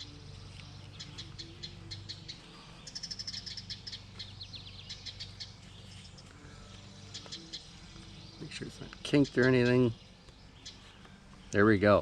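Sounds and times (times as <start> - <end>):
faint low hum: 0.0 - 12.0
songbirds chirping: 0.0 - 12.0.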